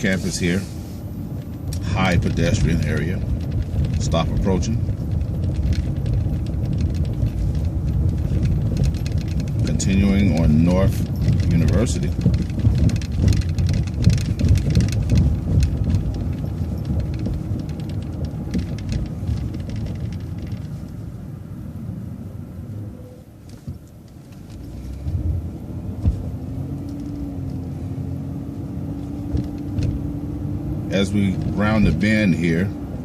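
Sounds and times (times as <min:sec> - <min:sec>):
light rattles: 0:00.0 - 0:21.2, 0:23.4 - 0:33.0
bus engine and road rumble: 0:00.0 - 0:33.0
engine and transmission whine: 0:00.0 - 0:33.0.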